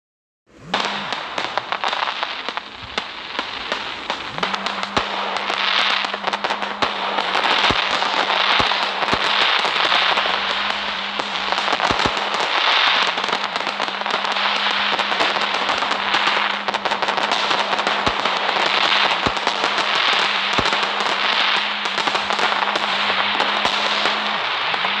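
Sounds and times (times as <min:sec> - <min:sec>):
fireworks crackling and popping: 0:00.5 - 0:25.0
steady low hum: 0:00.5 - 0:25.0.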